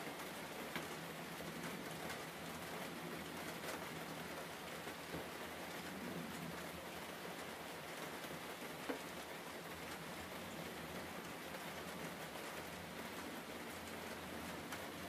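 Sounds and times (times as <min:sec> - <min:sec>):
steady rain-like hiss: 0:00.0 - 0:15.0.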